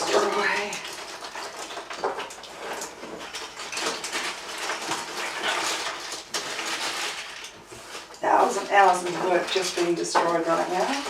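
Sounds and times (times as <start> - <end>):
puzzle pieces clattering: 0.0 - 11.0.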